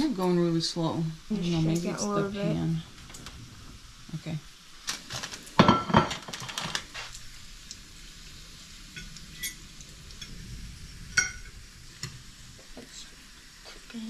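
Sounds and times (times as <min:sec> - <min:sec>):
bacon sizzling in a frying pan: 0:00.0 - 0:14.0.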